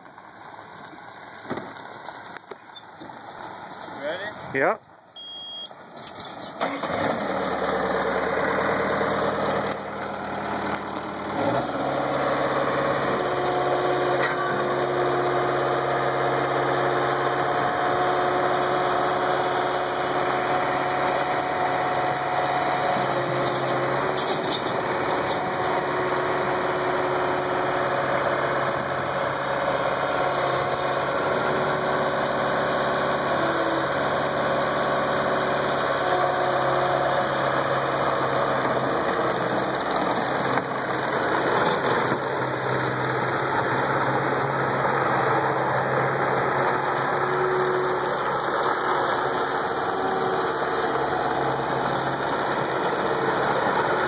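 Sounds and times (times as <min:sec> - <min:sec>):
diesel engine starting and running: 0:00.0 - 0:54.0.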